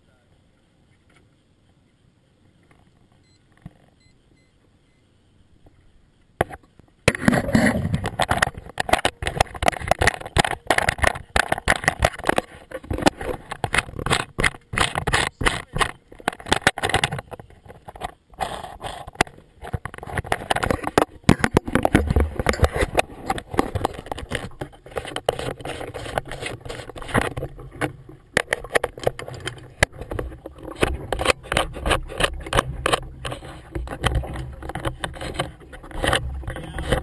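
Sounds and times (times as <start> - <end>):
camera handling knocks and rubbing: 6.4 - 18.2, 18.8 - 37.0.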